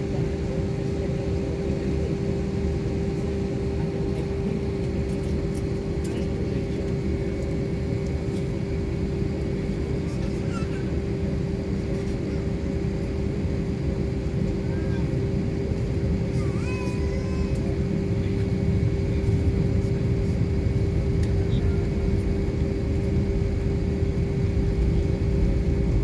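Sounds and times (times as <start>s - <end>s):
airliner cabin engine drone: 0.0s - 26.0s.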